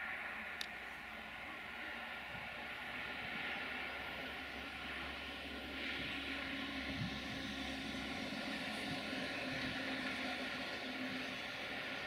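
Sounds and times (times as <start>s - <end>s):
distant electric train rumbling: 0.0s - 12.0s.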